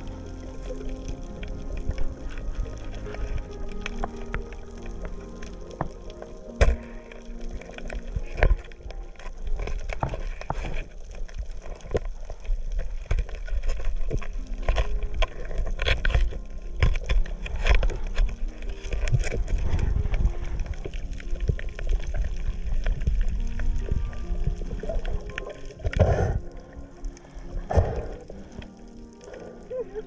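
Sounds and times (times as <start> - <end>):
sharp underwater clicks and crackles: 0.0 - 30.0
underwater rumble of moving water: 0.0 - 30.0.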